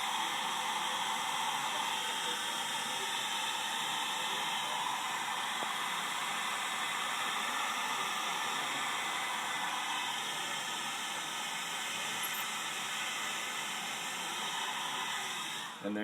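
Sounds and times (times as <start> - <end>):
heat gun hissing: 0.0 - 16.0.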